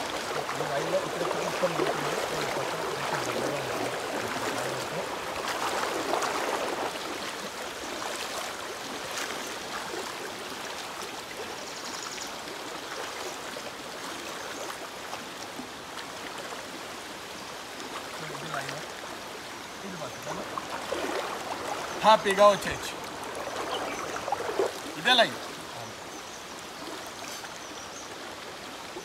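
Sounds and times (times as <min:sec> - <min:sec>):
water splashing around wading legs: 0:00.0 - 0:11.6, 0:12.4 - 0:17.1, 0:17.7 - 0:22.1, 0:22.9 - 0:25.9
stream rushing: 0:00.0 - 0:29.0.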